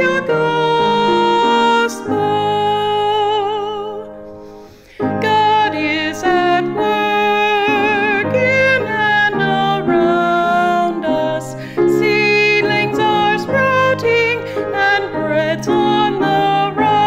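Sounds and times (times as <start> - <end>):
voice singing hymn with vibrato: 0.0 - 17.0.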